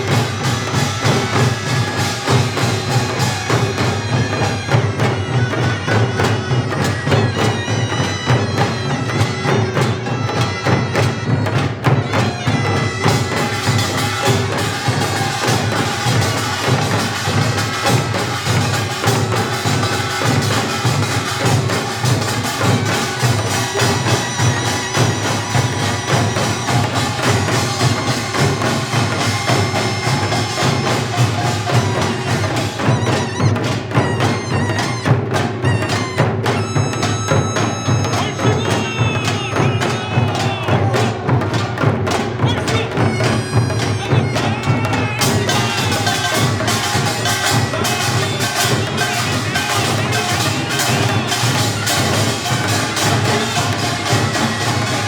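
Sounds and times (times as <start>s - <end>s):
drums and small gongs: 0.0s - 55.0s
reedy shawm melody: 0.0s - 55.0s.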